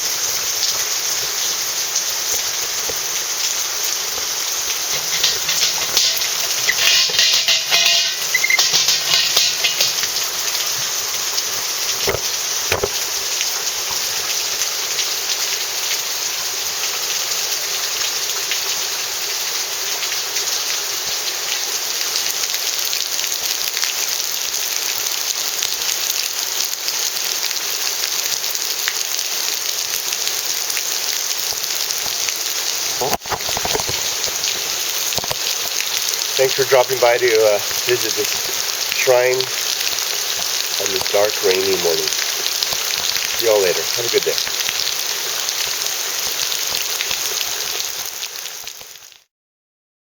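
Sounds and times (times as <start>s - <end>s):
heavy rain falling: 0.0s - 49.2s.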